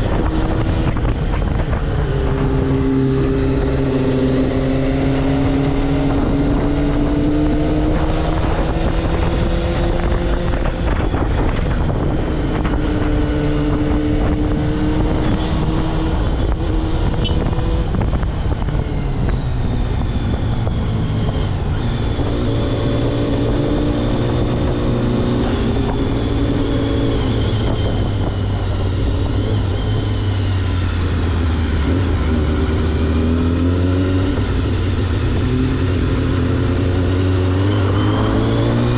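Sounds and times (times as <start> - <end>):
motorcycle engine revving: 0.0 - 38.9
wind rushing on microphone: 0.0 - 38.9.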